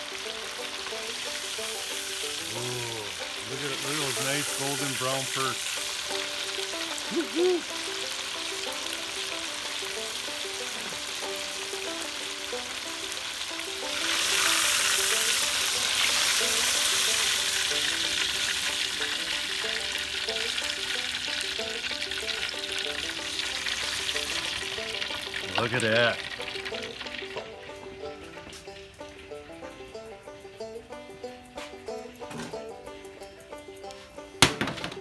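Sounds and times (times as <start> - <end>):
fish deep-frying in oil: 0.0 - 28.4
quiet melody: 0.0 - 34.4.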